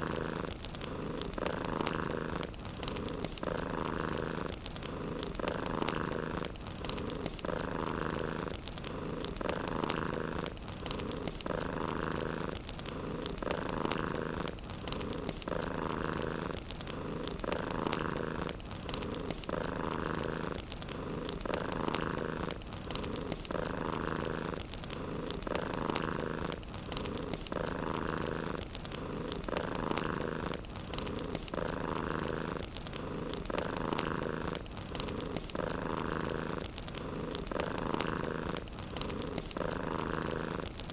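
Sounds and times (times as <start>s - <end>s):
cat purring: 0.0s - 40.9s
fireplace fire crackling: 0.0s - 40.9s.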